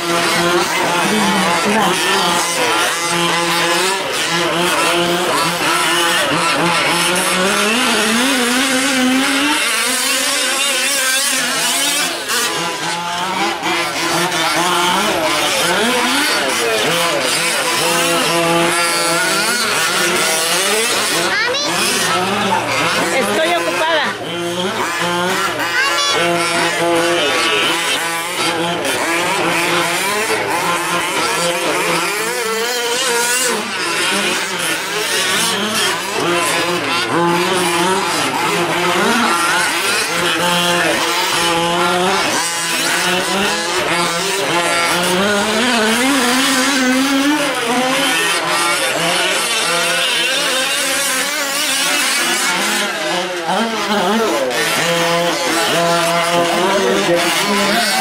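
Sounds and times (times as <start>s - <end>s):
small two-stroke engines revving: 0.0s - 58.0s.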